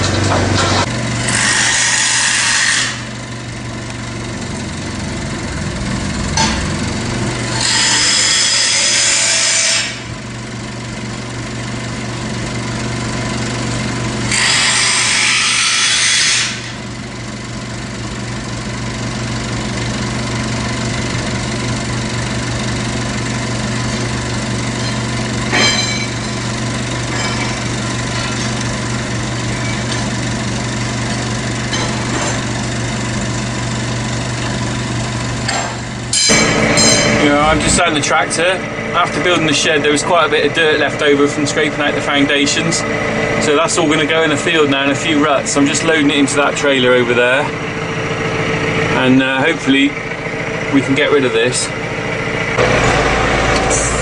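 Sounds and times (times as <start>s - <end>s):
power tool running: 0.0s - 54.0s
engine idling hum: 2.8s - 54.0s.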